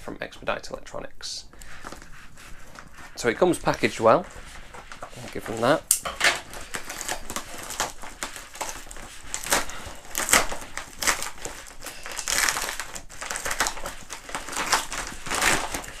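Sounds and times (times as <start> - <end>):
bubble wrap mailer crinkling: 1.5 - 16.0.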